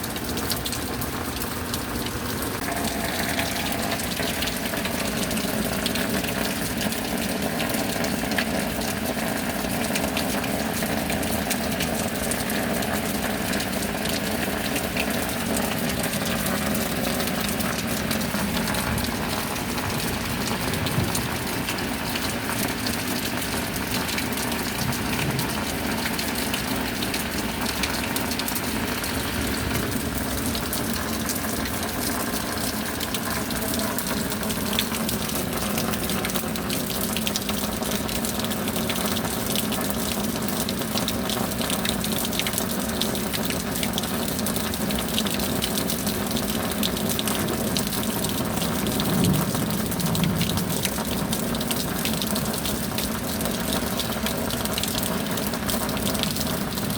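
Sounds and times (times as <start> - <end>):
raindrops ticking: 0.0 - 56.9
rain hissing: 0.1 - 37.9, 47.0 - 56.9.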